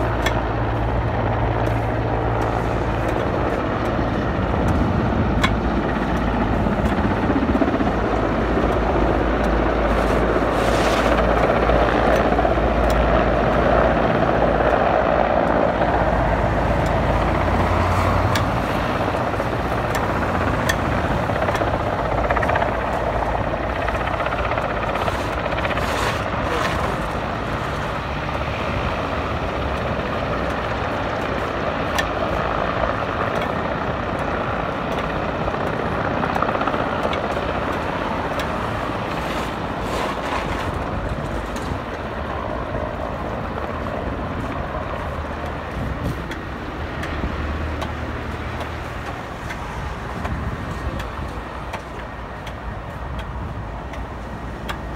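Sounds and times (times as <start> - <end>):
helicopter rotors and engines: 0.0 - 54.9.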